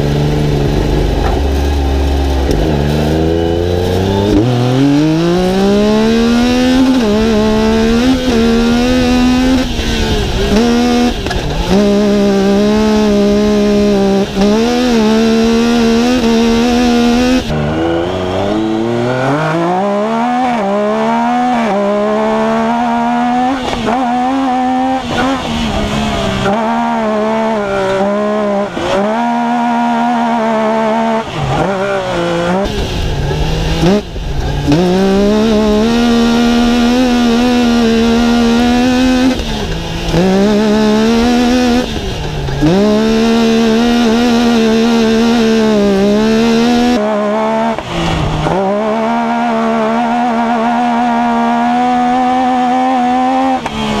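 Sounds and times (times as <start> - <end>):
engine accelerating through gears: 0.0 - 54.0.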